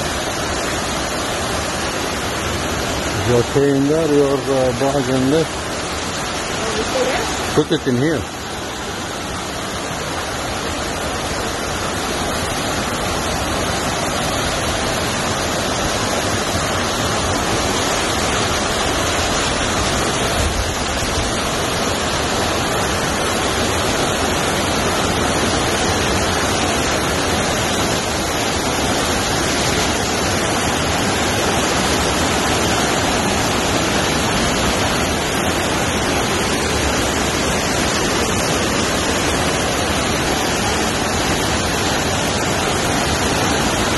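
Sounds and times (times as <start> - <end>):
waterfall pouring into pool: 0.0 - 43.9.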